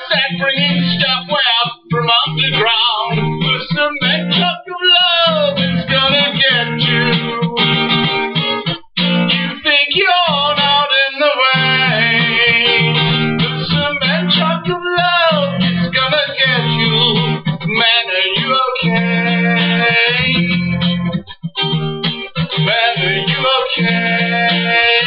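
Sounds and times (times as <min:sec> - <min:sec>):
acoustic guitar strummed chords: 0:00.0 - 0:25.0
gliding guitar melody: 0:00.0 - 0:25.0.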